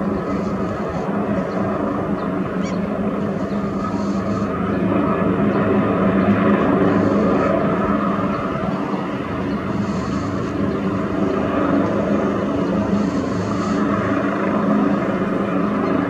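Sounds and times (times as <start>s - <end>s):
helicopter running on ground: 0.0s - 16.0s.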